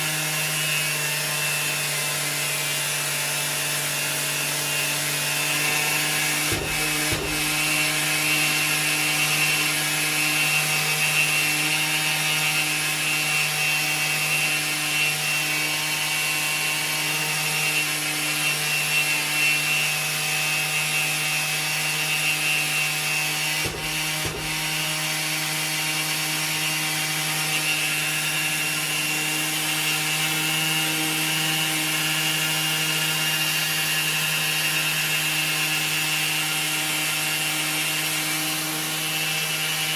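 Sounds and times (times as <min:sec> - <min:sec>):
orbital sander running: 0:00.0 - 0:39.9.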